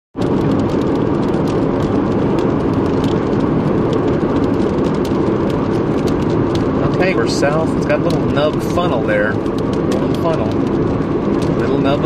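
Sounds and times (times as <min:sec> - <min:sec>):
vehicle rumbling drone: 0:00.2 - 0:12.0.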